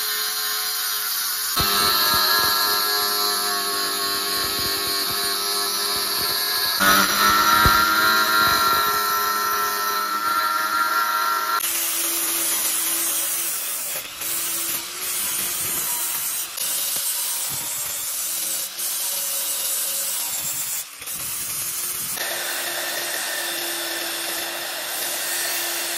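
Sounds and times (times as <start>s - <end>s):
power tool whining: 0.0s - 25.9s.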